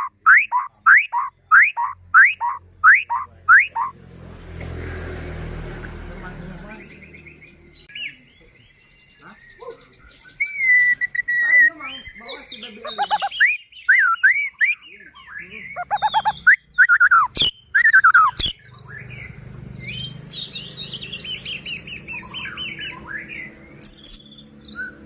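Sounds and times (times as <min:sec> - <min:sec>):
bird singing whistles and trills: 0:00.0 - 0:03.9, 0:06.6 - 0:25.0.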